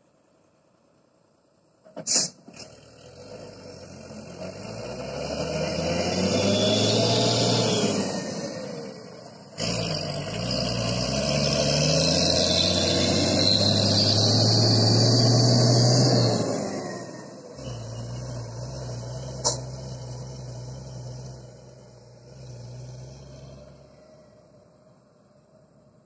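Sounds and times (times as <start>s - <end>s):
diesel engine revving: 2.4s - 24.4s.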